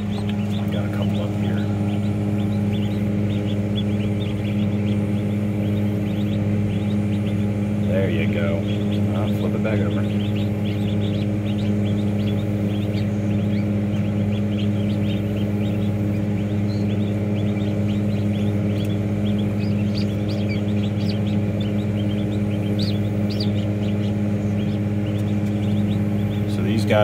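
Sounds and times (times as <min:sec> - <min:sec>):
ducklings peeping: 0:00.0 - 0:27.0
incubator machinery hum: 0:00.0 - 0:27.0.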